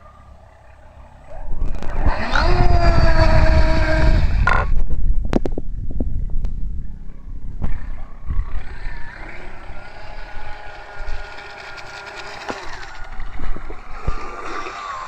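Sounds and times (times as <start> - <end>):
electric motor whining: 0.0 - 4.9, 7.6 - 15.0.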